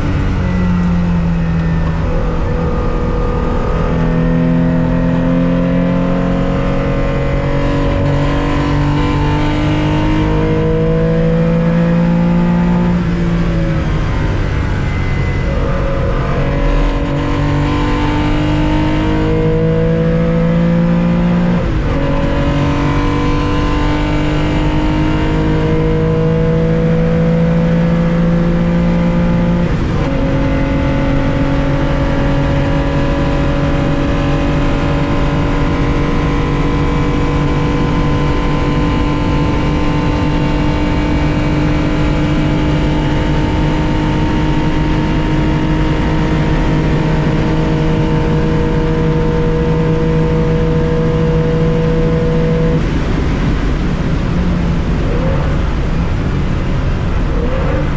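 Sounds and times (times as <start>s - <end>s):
car engine revving at full throttle: 0.0s - 57.9s.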